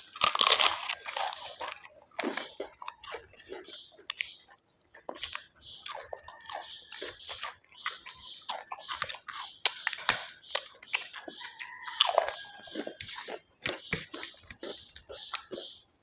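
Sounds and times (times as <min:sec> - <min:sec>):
chewing crunchy food: 0:00.0 - 0:16.0
wet mouth clicks: 0:00.8 - 0:04.4, 0:05.0 - 0:15.8.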